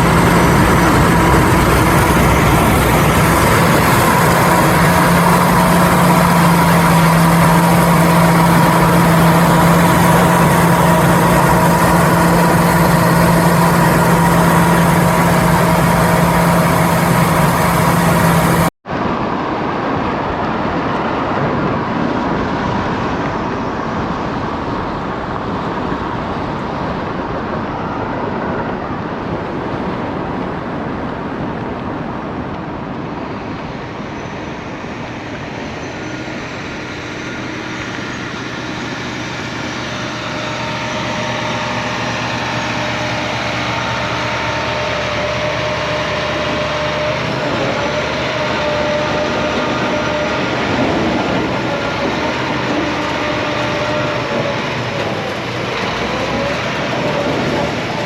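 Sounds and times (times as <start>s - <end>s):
heavy vehicle engine humming: 0.0s - 19.4s, 20.3s - 58.0s
broad engine noise: 0.0s - 58.0s
high engine whine: 0.0s - 58.0s.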